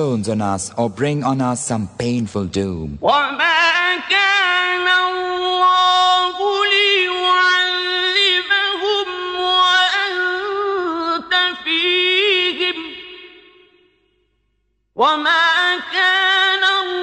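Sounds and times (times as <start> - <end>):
man chanting melodically: 0.0 - 13.8.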